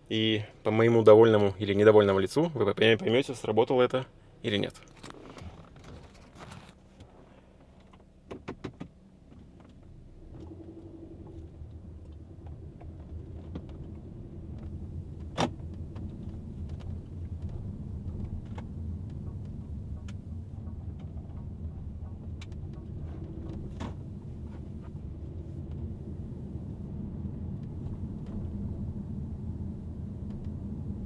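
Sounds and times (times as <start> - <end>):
engine and road rumble: 0.0 - 31.0.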